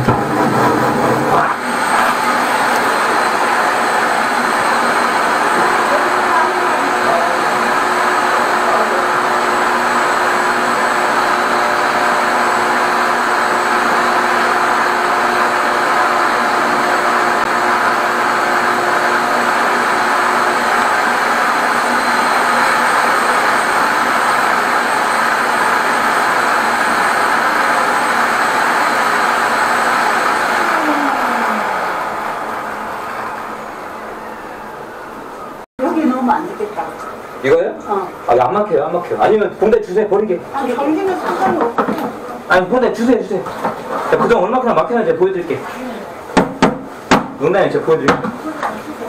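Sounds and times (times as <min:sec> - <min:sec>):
suction machine rushing: 0:00.0 - 0:49.0.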